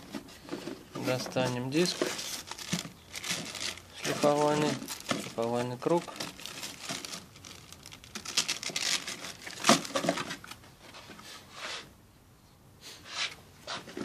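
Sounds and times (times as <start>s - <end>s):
cardboard and plastic rustling: 0.0s - 11.2s.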